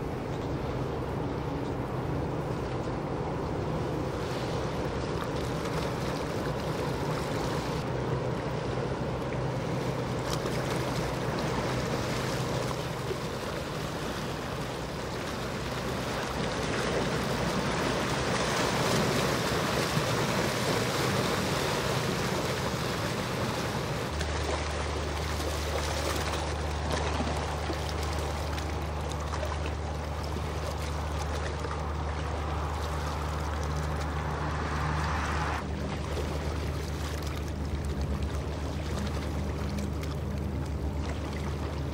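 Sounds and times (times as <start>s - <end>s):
rushing water: 0.0s - 41.9s
ship engine drone: 0.0s - 41.9s
wind: 0.0s - 41.9s.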